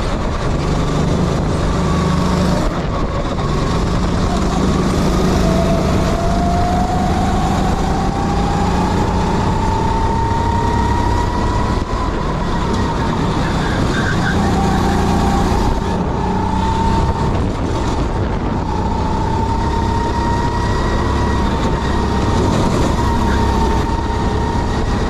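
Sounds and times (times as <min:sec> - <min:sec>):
kart engine accelerating: 0:00.0 - 0:25.0.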